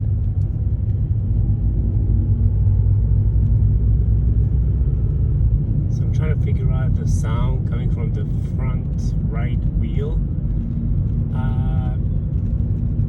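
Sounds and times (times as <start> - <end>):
car driving rumble: 0.0 - 13.0
faint wheel whine: 0.0 - 13.0.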